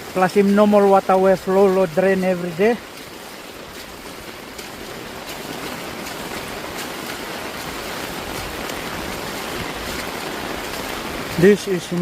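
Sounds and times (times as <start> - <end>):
rain falling: 0.0 - 12.0
rainwater rushing in drain: 0.0 - 12.0.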